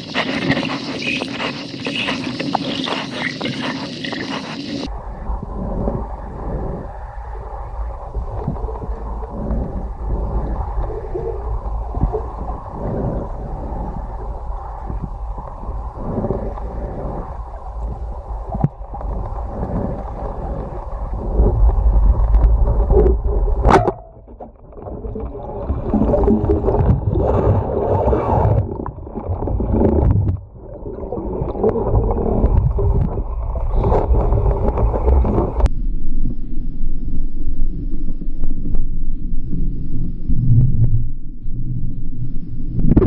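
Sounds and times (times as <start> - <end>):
water sloshing and gurgling: 0.0 - 35.7.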